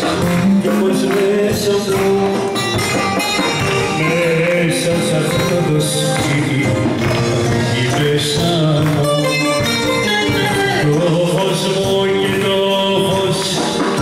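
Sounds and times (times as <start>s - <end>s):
backing band playing dance music: 0.0s - 14.0s
man singing into a microphone: 0.0s - 14.0s.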